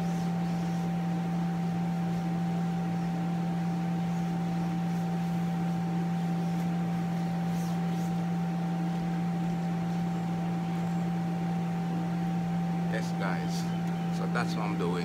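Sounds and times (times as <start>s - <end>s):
electric air blower humming: 0.0s - 15.0s.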